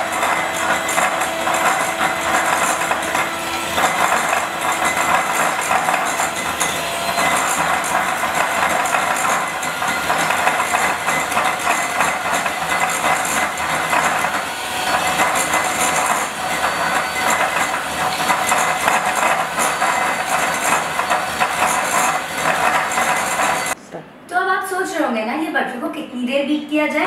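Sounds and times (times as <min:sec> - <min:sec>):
beaters clattering in glass bowl: 0:00.0 - 0:23.8
electric hand mixer whine: 0:00.0 - 0:23.8.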